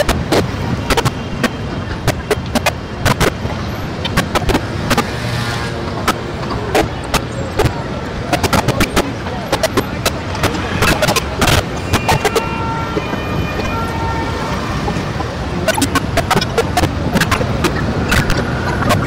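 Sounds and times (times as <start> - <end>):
sharp electronic clicks and crackles: 0.0 - 5.2, 5.9 - 13.8, 14.8 - 19.0.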